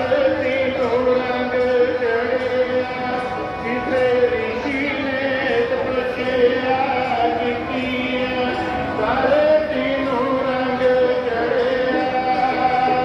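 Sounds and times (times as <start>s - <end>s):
person chanting devotional song: 0.0s - 13.0s.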